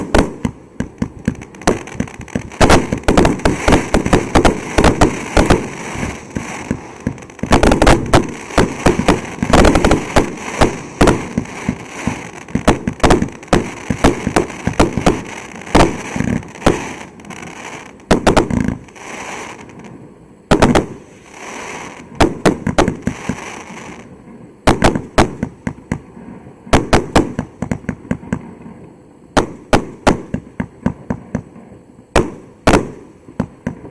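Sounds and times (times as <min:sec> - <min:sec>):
fireworks bangs and crackling: 0:00.0 - 0:33.9.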